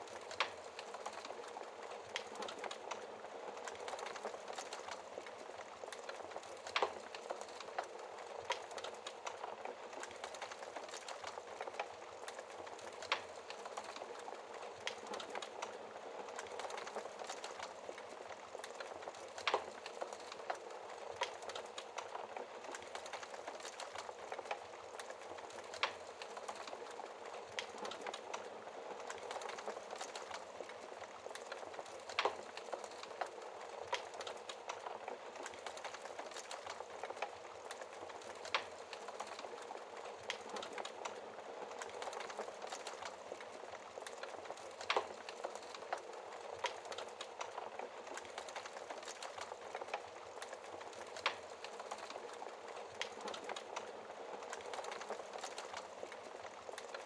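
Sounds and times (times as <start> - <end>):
wood fire crackling: 0.0 - 57.0
fire popping: 0.1 - 57.0.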